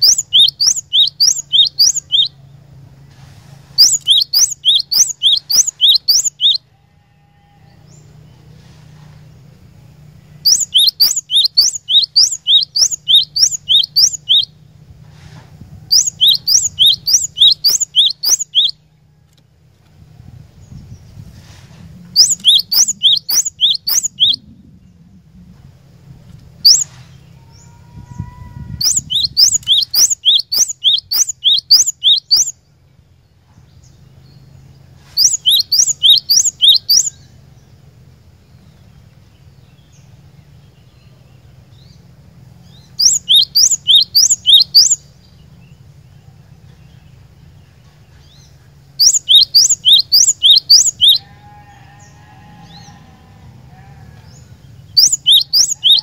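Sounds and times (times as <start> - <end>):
bird singing high downward notes: 0.0 - 3.1, 3.7 - 14.8, 15.6 - 56.0.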